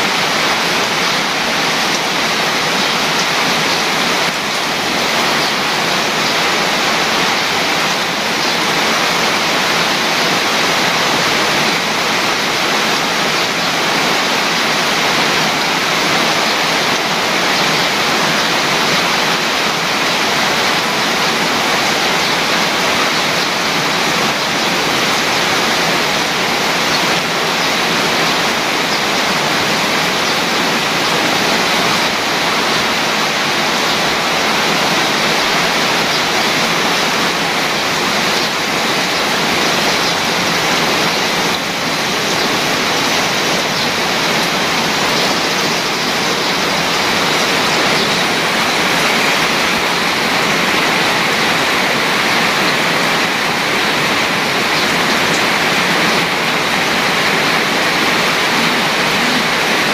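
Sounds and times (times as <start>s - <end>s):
heavy rain on foliage: 0.0s - 59.9s.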